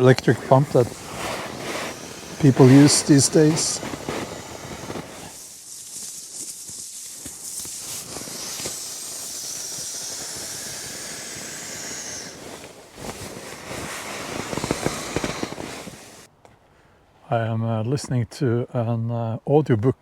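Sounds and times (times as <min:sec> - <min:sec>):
air rushing into valve: 0:00.0 - 0:16.3.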